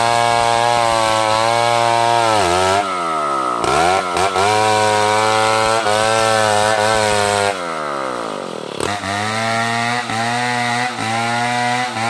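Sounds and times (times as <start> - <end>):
chainsaw sawing log: 0.0 - 12.0.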